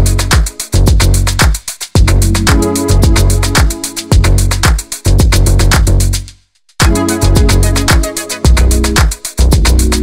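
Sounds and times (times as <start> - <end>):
deep kick drum: 0.0 - 6.1, 6.8 - 8.8, 9.4 - 9.9
electronic dance music: 0.0 - 6.2, 6.8 - 10.0
quick hi-hats: 0.0 - 10.0.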